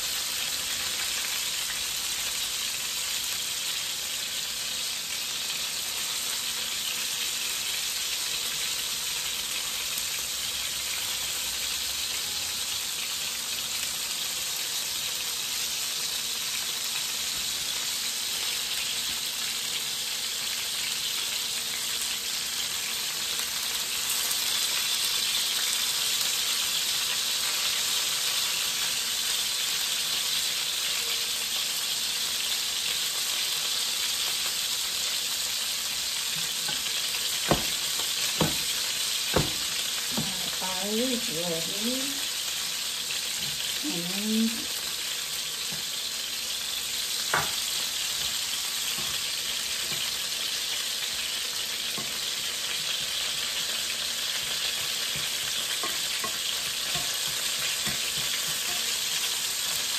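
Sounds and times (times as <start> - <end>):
fish sizzling in a frying pan: 0.0 - 59.9.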